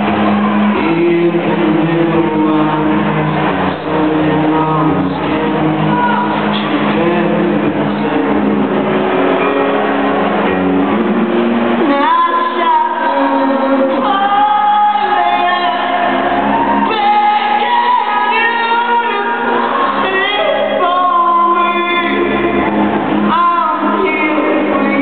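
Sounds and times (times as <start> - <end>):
person singing: 0.0 - 9.8, 10.5 - 25.0
distant echoing rock band: 0.0 - 25.0.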